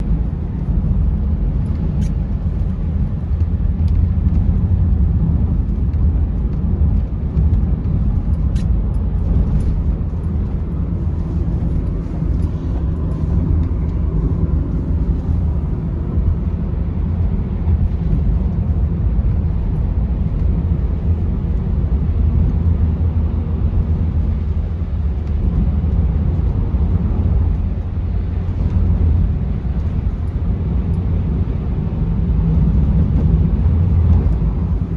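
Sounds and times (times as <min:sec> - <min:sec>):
car engine and road rumble: 0:00.0 - 0:34.9.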